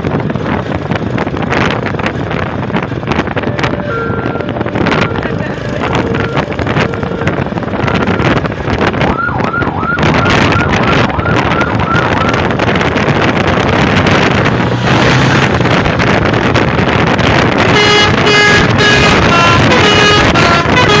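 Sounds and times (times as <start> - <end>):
bus passing by: 0.0 - 21.0.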